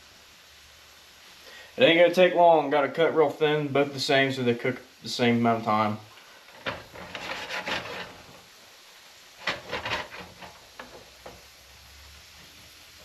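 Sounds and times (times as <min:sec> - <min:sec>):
faint steady hiss: 0:00.0 - 0:13.0
fish frying in butter: 0:00.0 - 0:13.0.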